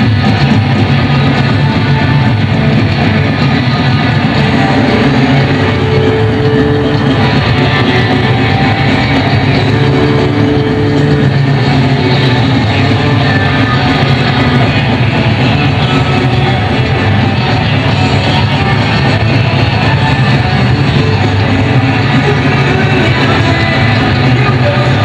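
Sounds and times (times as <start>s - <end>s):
punk rock band playing: 0.0s - 25.0s.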